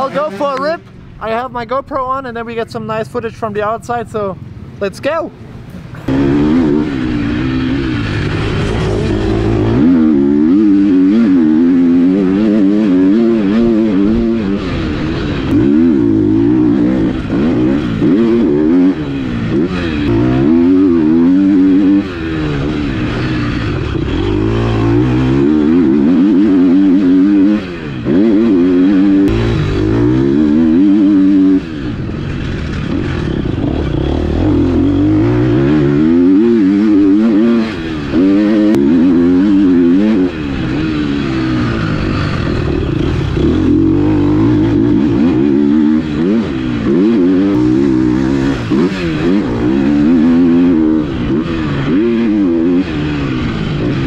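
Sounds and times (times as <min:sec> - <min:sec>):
motocross bike engine revving: 0:00.0 - 0:01.0, 0:05.9 - 0:54.0.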